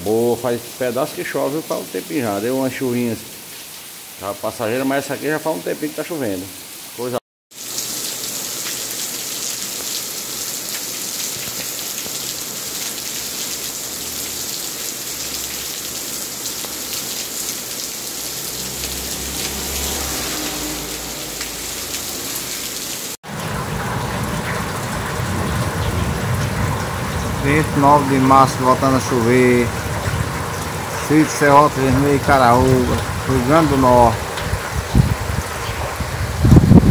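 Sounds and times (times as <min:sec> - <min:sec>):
heavy rain on pavement: 0:00.0 - 0:04.2, 0:06.6 - 0:36.9.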